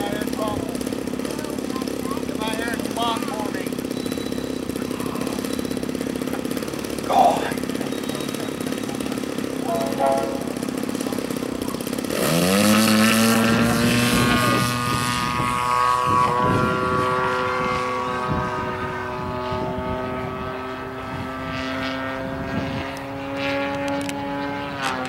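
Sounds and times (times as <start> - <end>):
model airplane engine revving: 0.0 - 25.0.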